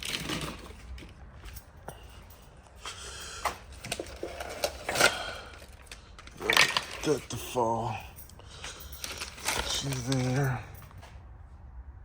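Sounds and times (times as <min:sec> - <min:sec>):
boxes and gear being handled: 0:00.0 - 0:11.2.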